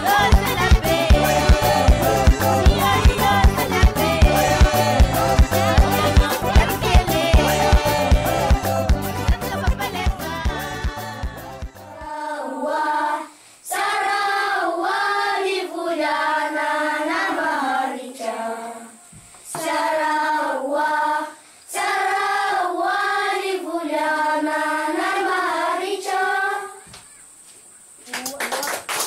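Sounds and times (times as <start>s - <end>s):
children singing in unison: 0.0s - 26.9s.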